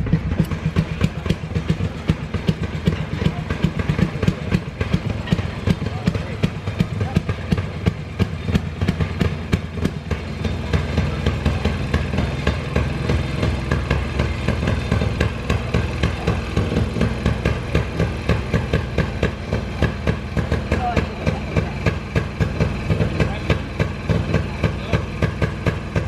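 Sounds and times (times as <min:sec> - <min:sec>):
small engines idling: 0:00.0 - 0:26.0.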